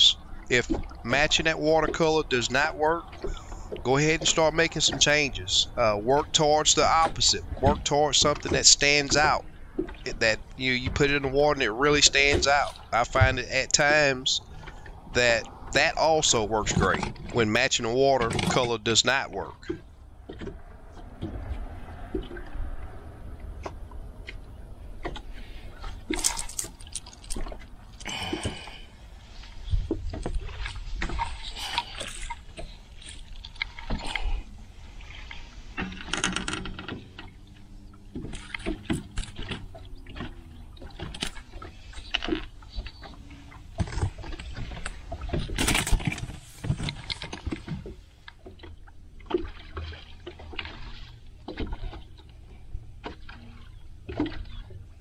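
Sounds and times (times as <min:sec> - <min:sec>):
constant low rumble: 0:00.0 - 0:55.0
knocks and clicks on hull: 0:00.0 - 0:55.0
water splashing around a boat: 0:00.0 - 0:55.0.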